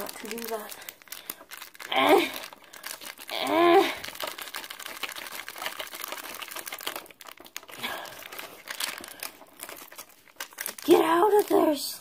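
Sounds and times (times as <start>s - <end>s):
plastic pouch crinkling: 0.0s - 12.0s.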